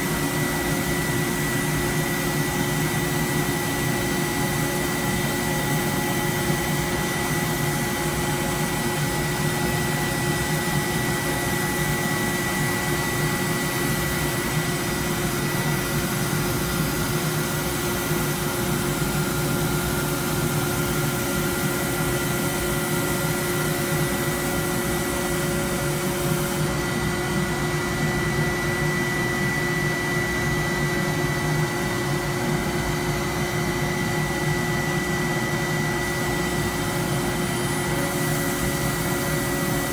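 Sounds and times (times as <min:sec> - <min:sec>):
high machine whine: 0:00.0 - 0:39.9
industrial machine running: 0:00.0 - 0:39.9.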